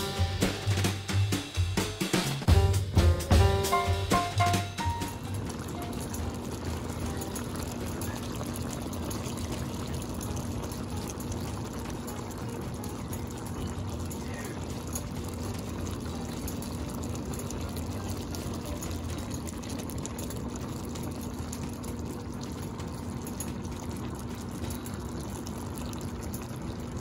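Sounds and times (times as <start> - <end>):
stew bubbling in a pan: 0.0 - 27.0.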